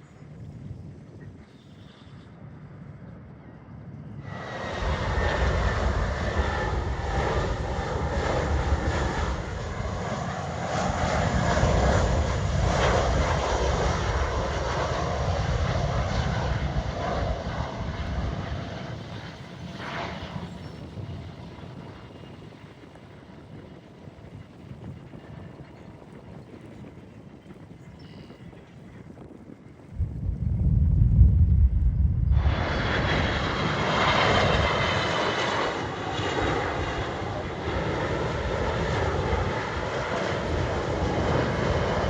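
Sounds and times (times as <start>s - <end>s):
jet airliner passing by: 0.0s - 42.0s.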